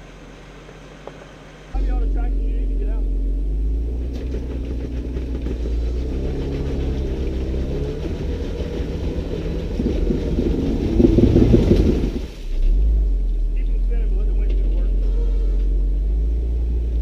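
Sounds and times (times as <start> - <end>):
off-road engine under load: 0.0 - 17.0.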